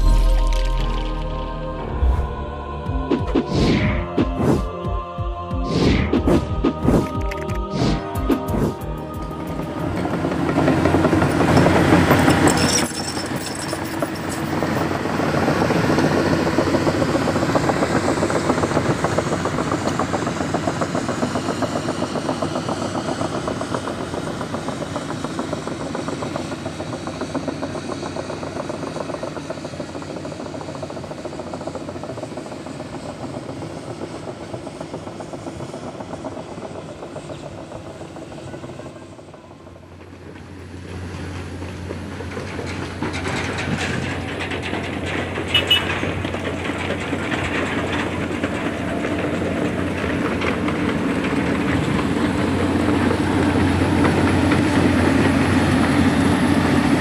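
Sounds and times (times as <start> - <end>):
diesel machinery clattering: 6.1 - 57.0.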